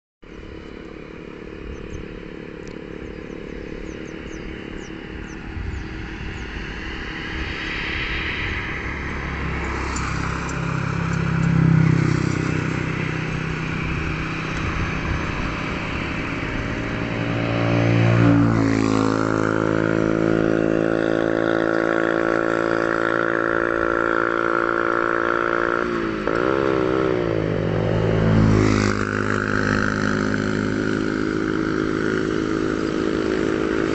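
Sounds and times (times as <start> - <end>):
jet engines roaring at takeoff: 0.2 - 24.5, 25.8 - 33.9.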